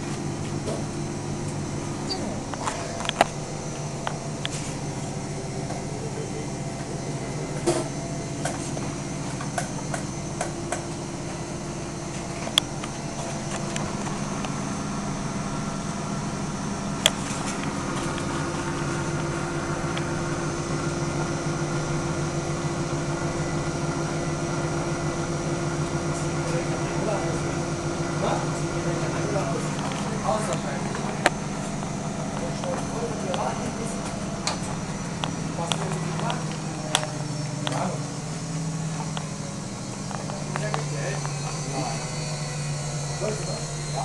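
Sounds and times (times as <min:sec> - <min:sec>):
washing machine motor hum: 0:00.0 - 0:44.0.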